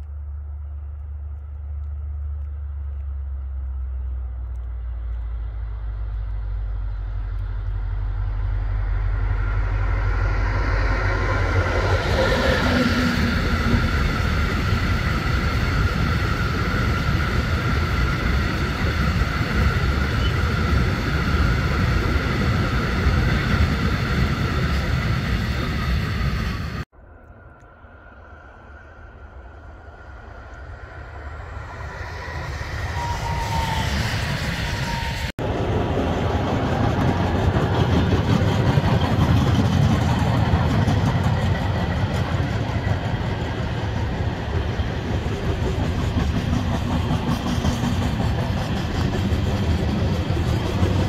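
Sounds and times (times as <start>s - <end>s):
freight train rumble and clatter: 0.0s - 27.0s, 30.4s - 51.0s.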